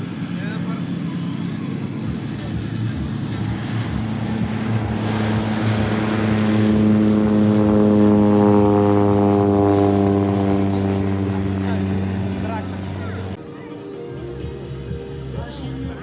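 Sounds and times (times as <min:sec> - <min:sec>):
propeller airplane engine: 0:00.0 - 0:16.0.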